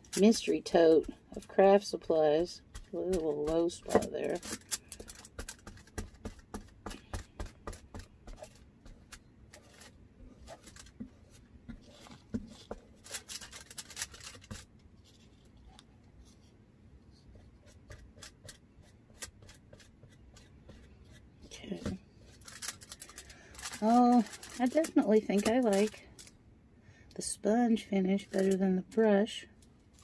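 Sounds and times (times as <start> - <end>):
brushes scratching and tapping: 0.0 - 16.5, 17.2 - 26.3, 27.5 - 30.0.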